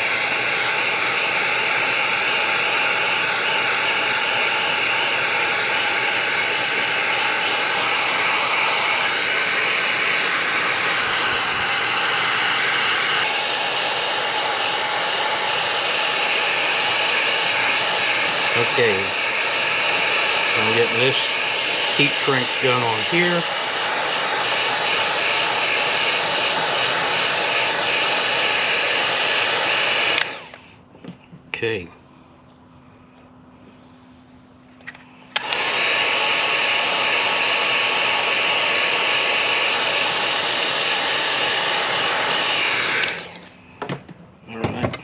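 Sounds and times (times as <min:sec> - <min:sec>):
heat gun blowing hot air: 0:00.0 - 0:30.8, 0:34.9 - 0:44.6.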